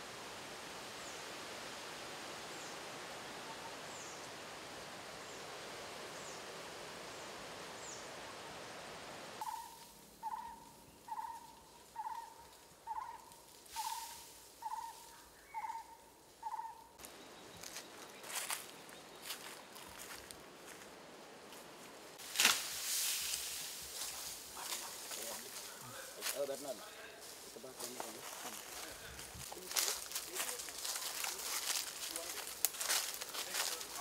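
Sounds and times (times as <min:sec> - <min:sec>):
forest rustling hiss: 0:00.0 - 0:34.0.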